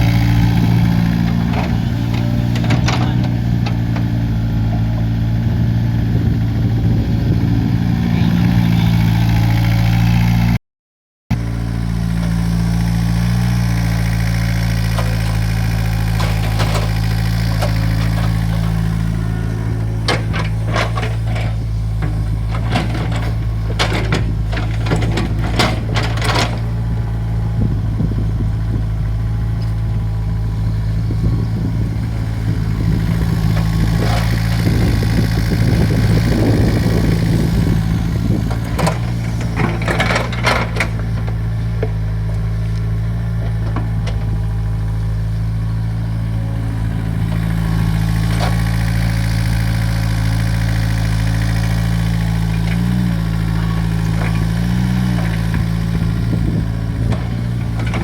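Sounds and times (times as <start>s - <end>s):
excavator diesel engine running: 0.0s - 10.5s, 11.3s - 58.0s.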